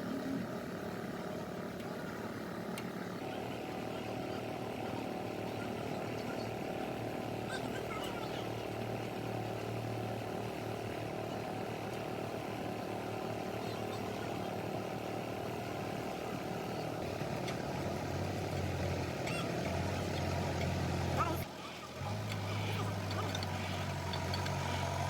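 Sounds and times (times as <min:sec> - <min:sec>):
machine motor humming: 0:00.0 - 0:25.0.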